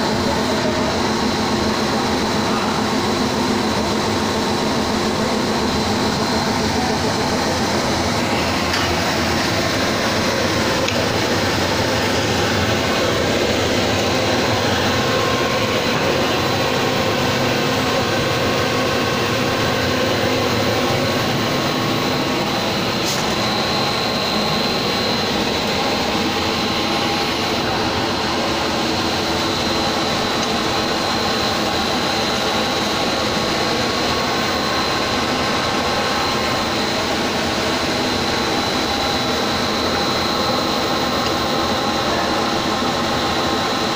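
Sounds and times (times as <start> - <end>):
machine blower and motors: 0.0 - 43.9
faint high whine: 0.1 - 43.9.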